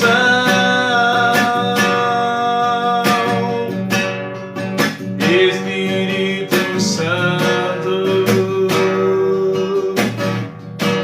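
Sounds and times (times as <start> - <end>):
man singing: 0.0 - 4.2, 5.0 - 10.5
strummed acoustic guitar: 0.0 - 11.0.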